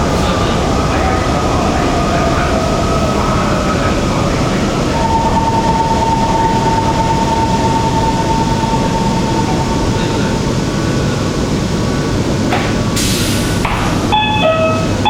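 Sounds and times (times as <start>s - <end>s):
train rumbling at speed: 0.0s - 15.0s
high steady whine: 0.2s - 13.0s.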